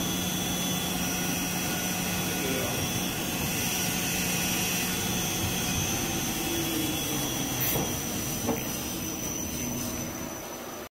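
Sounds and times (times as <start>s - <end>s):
band saw whirring with whine: 0.0s - 10.9s.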